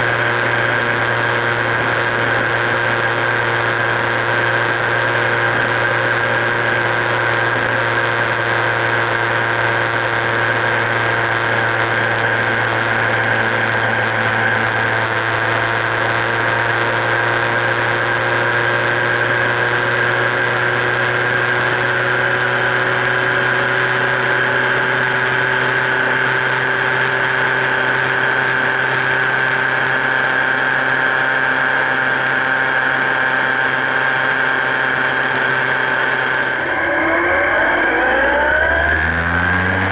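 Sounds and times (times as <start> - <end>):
high-pitched whine: 0.0 - 39.9
motorcycle engine cruising: 0.0 - 39.9
road noise: 0.0 - 39.9.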